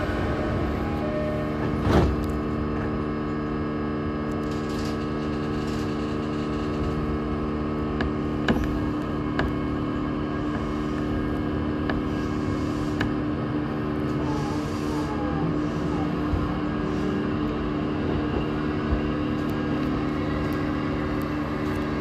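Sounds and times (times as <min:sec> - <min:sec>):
electrical hum in train cab: 0:00.0 - 0:22.0.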